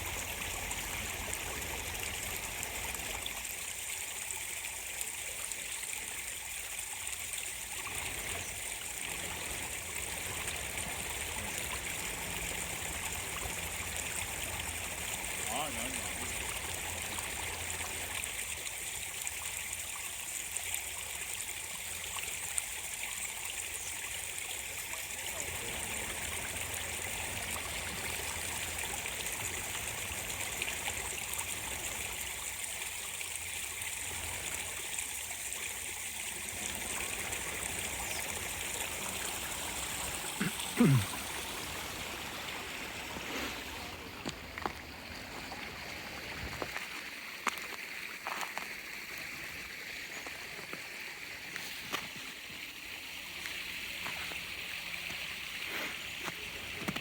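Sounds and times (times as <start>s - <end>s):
stream water splashing: 0.0s - 57.0s.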